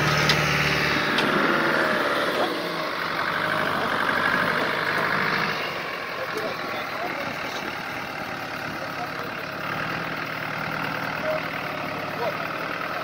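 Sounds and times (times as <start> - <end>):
distant off-road vehicle engine: 0.0 - 13.0.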